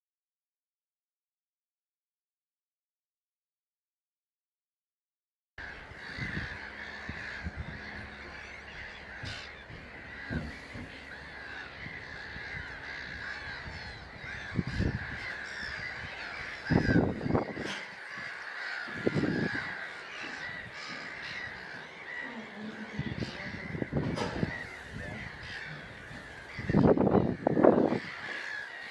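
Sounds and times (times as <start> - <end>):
flock of gulls calling: 5.6 - 28.9.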